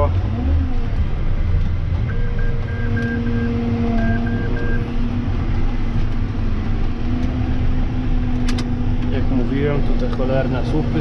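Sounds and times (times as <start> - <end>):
tractor running: 0.0 - 11.0
steady whine: 0.6 - 11.0.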